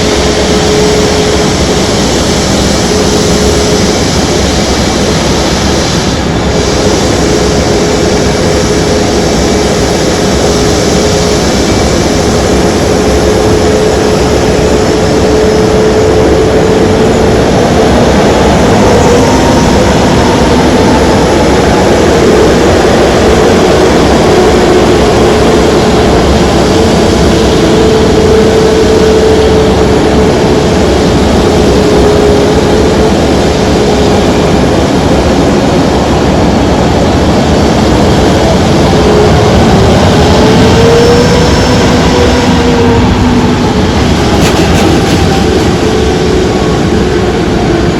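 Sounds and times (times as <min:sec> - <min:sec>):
aircraft engine droning: 0:00.0 - 0:47.9.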